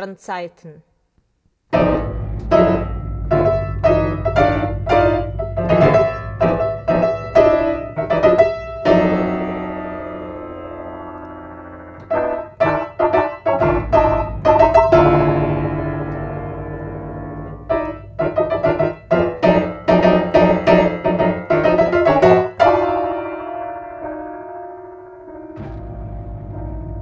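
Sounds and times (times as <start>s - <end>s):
grand piano playing: 1.7s - 27.0s.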